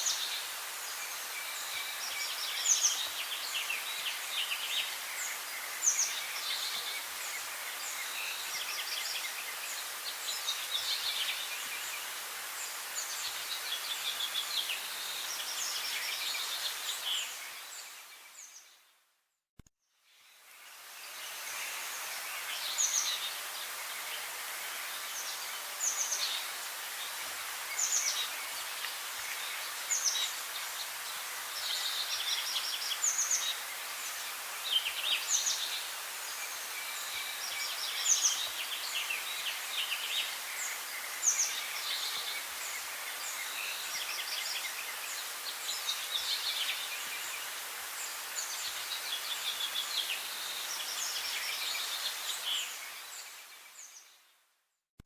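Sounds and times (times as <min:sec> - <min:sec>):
forest background hiss: 0:00.0 - 0:19.2, 0:19.8 - 0:54.7.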